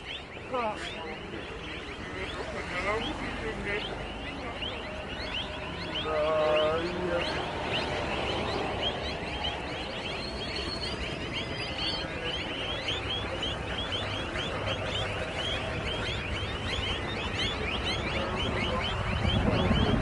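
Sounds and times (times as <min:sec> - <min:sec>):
chicks peeping: 0:00.0 - 0:20.0
steady low rumble: 0:00.0 - 0:20.0.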